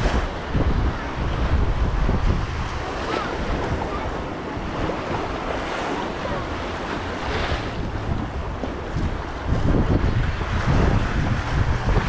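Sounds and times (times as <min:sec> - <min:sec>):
sea surf washing on beach: 0:00.0 - 0:12.0
wind buffeting microphone: 0:00.0 - 0:12.0.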